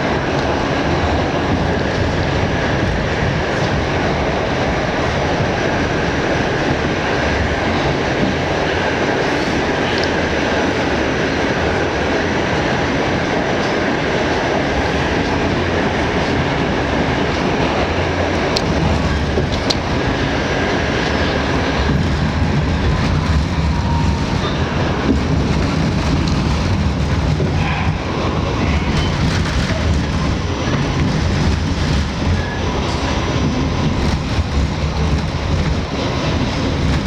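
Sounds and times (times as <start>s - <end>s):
rail joint clicks: 0.0s - 37.0s
subway wheels rumbling on rails: 0.0s - 37.0s.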